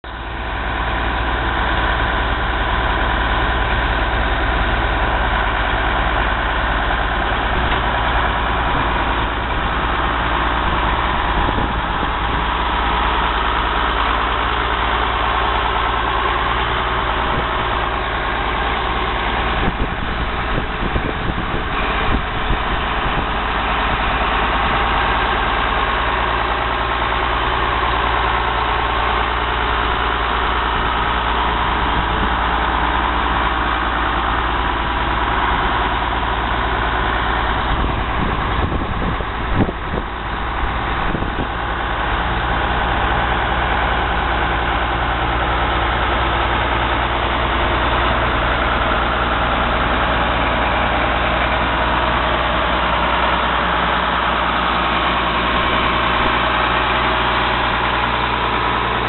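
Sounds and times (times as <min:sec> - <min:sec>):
diesel tractor engine idling: 0:00.0 - 0:59.0.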